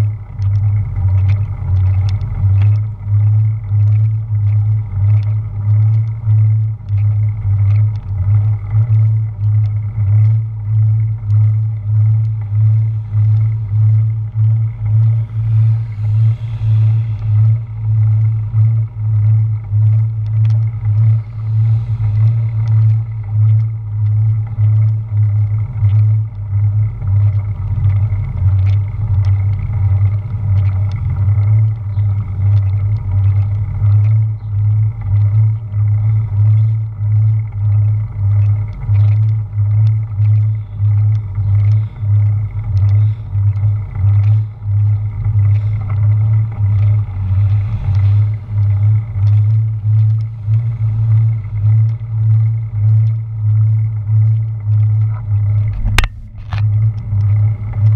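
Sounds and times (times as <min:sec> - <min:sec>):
light ticks: 0:00.0 - 0:57.9
road rumble: 0:00.0 - 0:57.9.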